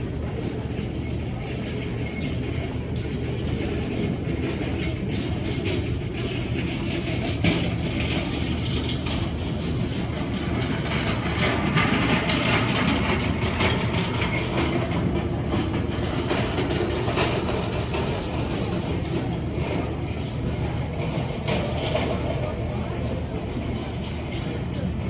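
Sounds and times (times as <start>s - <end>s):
low mechanical rumble: 0.0s - 25.0s.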